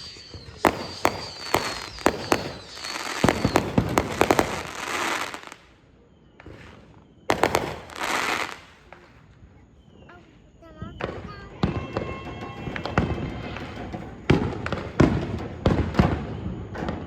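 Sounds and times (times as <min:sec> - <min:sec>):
fireworks banging and crackling: 0:00.0 - 0:17.0
high firework whistle: 0:00.0 - 0:17.0.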